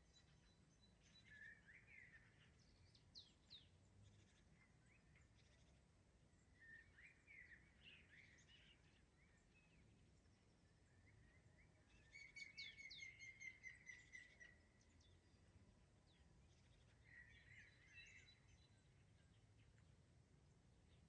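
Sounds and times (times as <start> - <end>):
faint songbird singing: 0.0 - 21.0
low background noise: 0.0 - 21.0.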